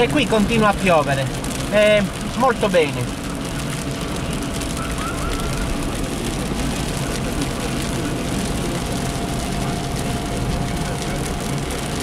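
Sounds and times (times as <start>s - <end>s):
low engine rumble: 0.0s - 12.0s
rain on car roof and windscreen: 0.0s - 12.0s.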